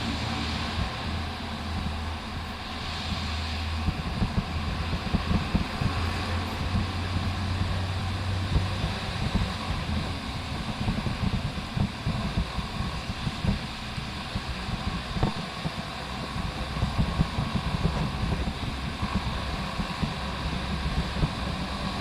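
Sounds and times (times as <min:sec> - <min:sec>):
wind rushing over microphone: 0:00.0 - 0:22.0
motorcycle engine running: 0:03.6 - 0:22.0.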